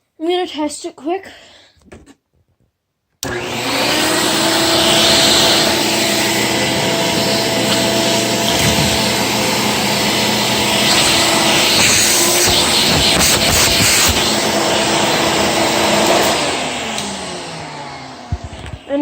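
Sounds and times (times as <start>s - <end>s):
upright vacuum running: 3.2s - 19.0s.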